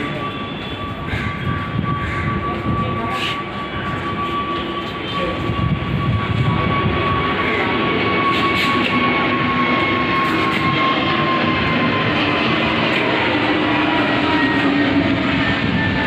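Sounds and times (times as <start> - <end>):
jet airliner flying over: 0.0 - 16.0.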